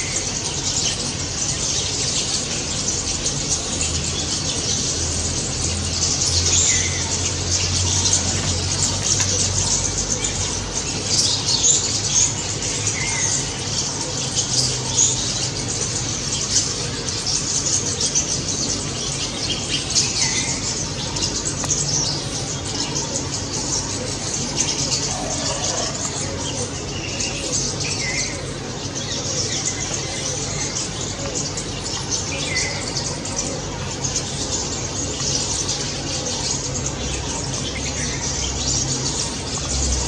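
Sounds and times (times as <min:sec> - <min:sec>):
flock of starlings chattering: 0:00.0 - 0:40.0
lower falling bird calls: 0:00.0 - 0:40.0.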